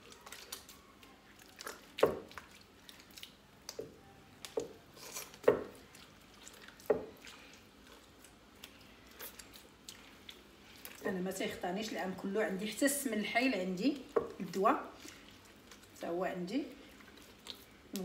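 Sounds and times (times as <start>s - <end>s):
wet squelches of butter kneaded by hand: 0.0s - 18.0s.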